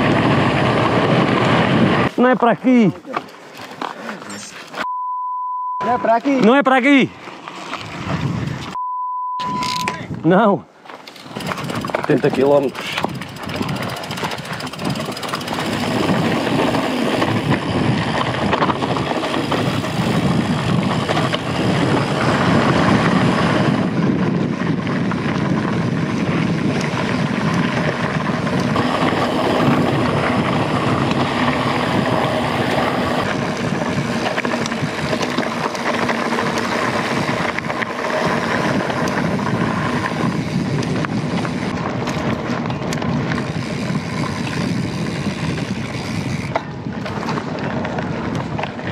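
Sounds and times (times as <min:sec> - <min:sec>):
rushing wind noise: 0:00.0 - 0:02.7, 0:07.0 - 0:08.8, 0:11.2 - 0:48.9
mountain bike rolling on dirt: 0:00.0 - 0:04.8, 0:05.8 - 0:08.8, 0:09.7 - 0:48.9.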